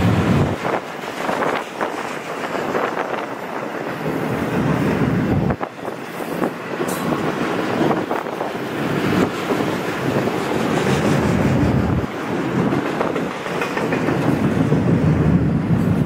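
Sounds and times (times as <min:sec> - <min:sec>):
freight train wheels rattling: 0:00.0 - 0:16.0.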